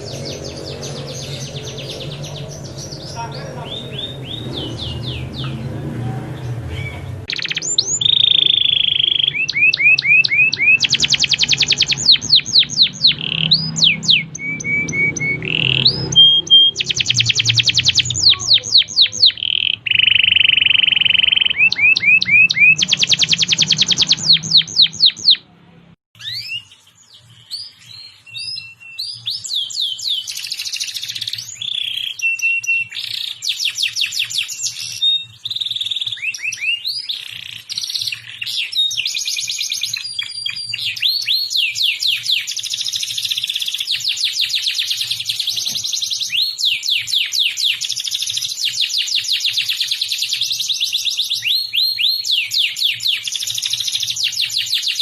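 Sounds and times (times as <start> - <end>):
canary singing: 0.0 - 25.5, 26.2 - 55.0.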